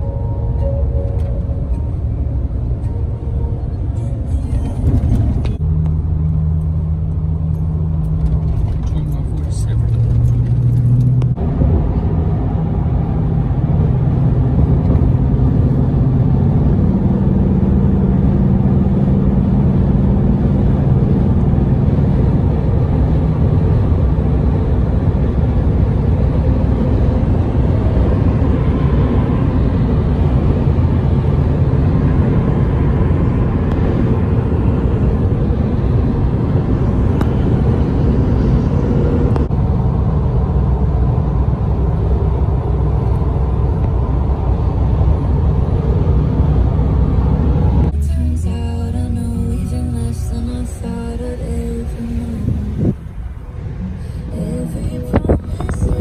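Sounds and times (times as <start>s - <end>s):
car road noise and engine drone: 0.0s - 56.0s.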